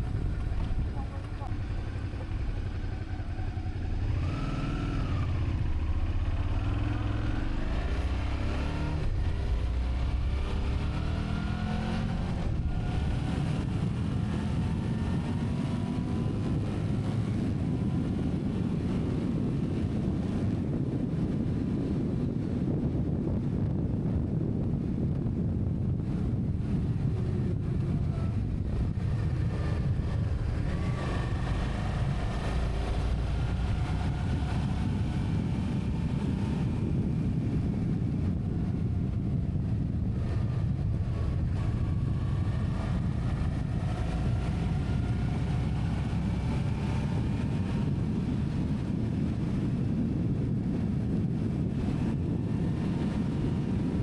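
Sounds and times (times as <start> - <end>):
vehicle engine running: 0.0 - 54.0
wind rumble on microphone: 0.0 - 54.0.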